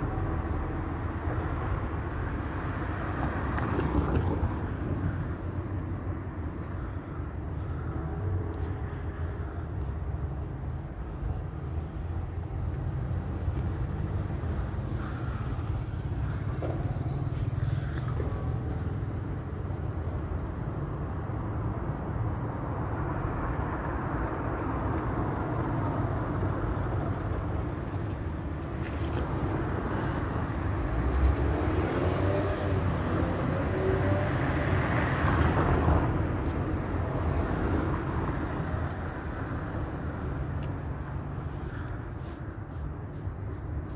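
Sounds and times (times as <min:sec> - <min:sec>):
traffic rumble: 0:00.0 - 0:43.9.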